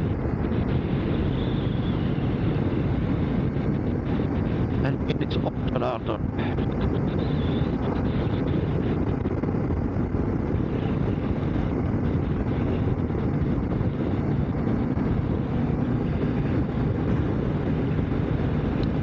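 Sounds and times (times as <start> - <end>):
motorcycle engine and road noise: 0.0 - 19.0
wind rush: 0.0 - 19.0.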